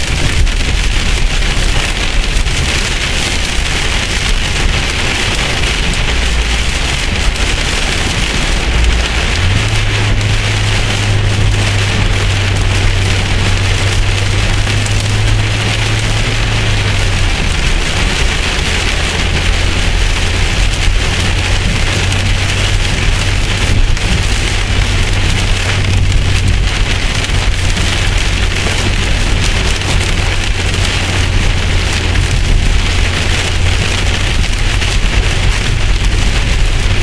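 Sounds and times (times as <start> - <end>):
heavy rain on car roof: 0.0 - 37.0
low rumble of car on road: 0.0 - 37.0.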